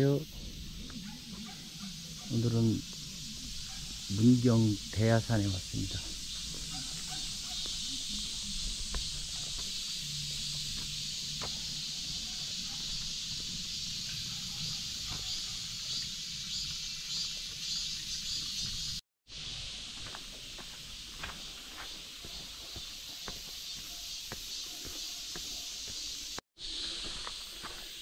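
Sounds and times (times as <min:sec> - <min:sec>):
insect chorus hissing: 0:00.0 - 0:28.0.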